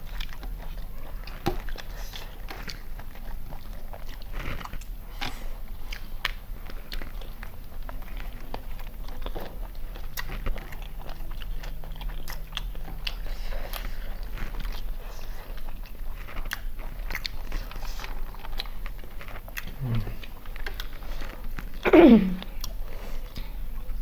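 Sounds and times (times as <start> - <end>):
chewing with crunches: 0.0 - 24.0
steady low hum: 0.0 - 24.0.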